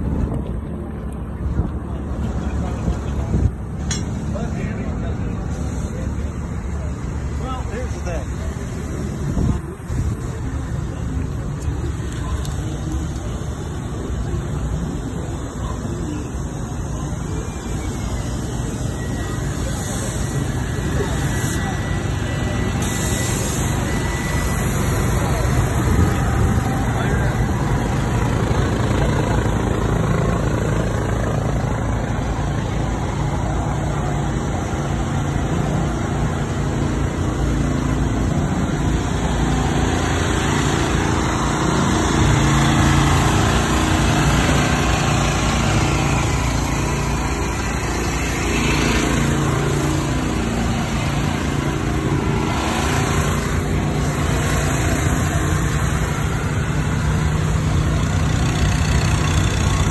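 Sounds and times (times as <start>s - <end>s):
portable generators running: 0.0s - 59.9s.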